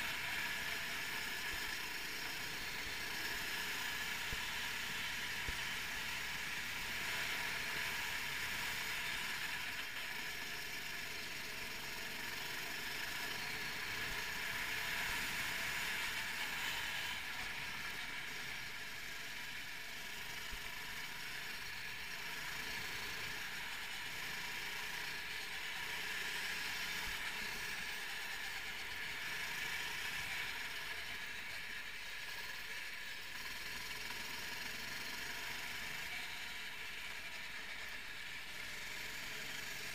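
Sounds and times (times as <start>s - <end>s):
kart engine drone: 0.0s - 39.9s.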